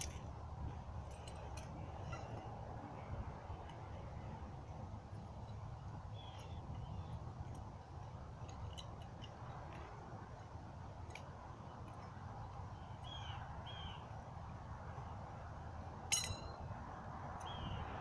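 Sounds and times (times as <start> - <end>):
light metallic chain clicks: 0.0 - 13.2, 16.0 - 17.7
wind rumble on microphone: 0.0 - 18.0.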